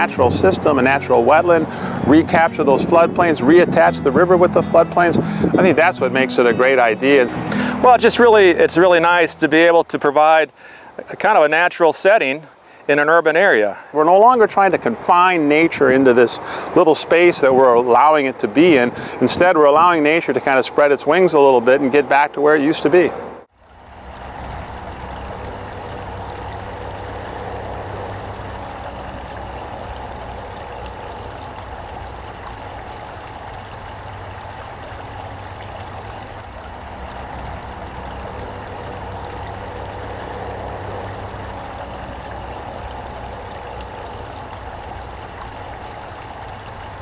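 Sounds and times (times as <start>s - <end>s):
distant traffic hum: 0.0s - 47.0s
flowing creek water: 0.0s - 47.0s.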